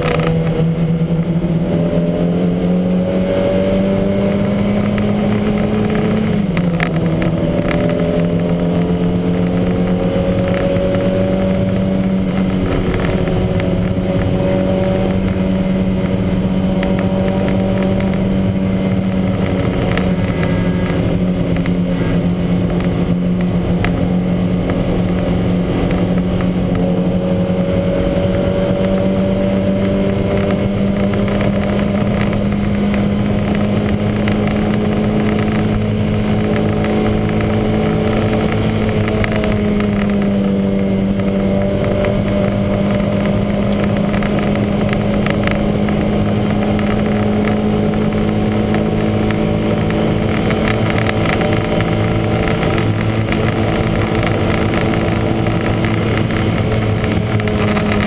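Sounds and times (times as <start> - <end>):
misfiring car engine running hard: 0.0 - 58.0.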